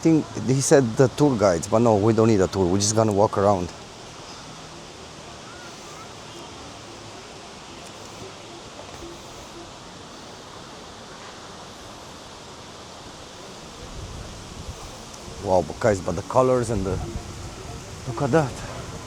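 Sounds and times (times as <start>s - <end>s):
faint distant voices: 0.0s - 19.0s
outdoor background hiss: 0.0s - 19.0s.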